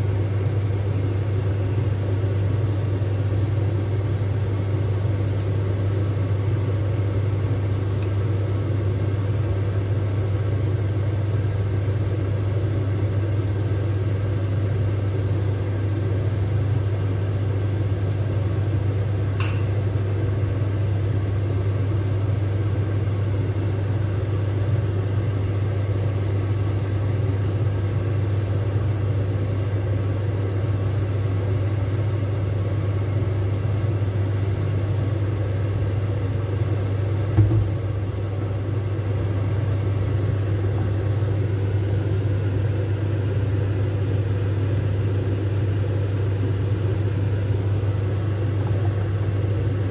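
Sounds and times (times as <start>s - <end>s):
low mechanical hum: 0.0s - 49.9s.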